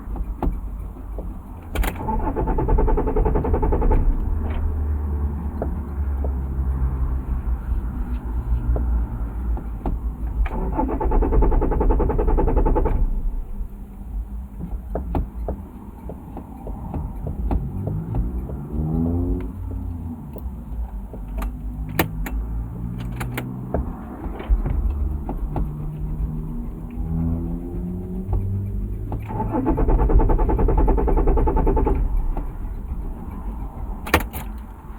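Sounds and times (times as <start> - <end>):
car starter cranking: 0.0 - 8.1, 9.1 - 34.9
car engine revving: 0.0 - 34.9.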